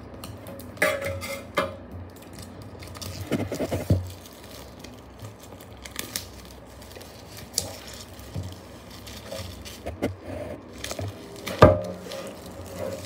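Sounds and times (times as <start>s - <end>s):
packaging crinkling and tearing: 2.1s - 13.0s.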